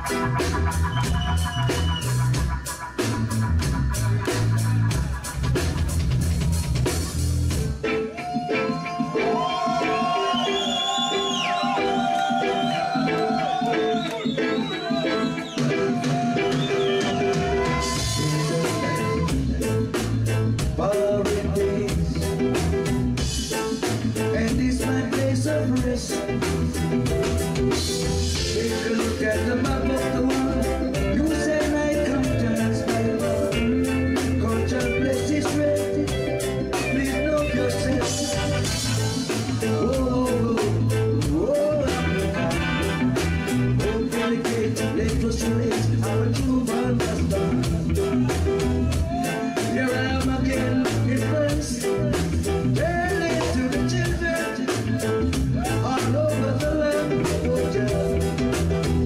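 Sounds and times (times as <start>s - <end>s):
live reggae band playing: 0.0s - 59.0s
man singing: 8.1s - 59.0s.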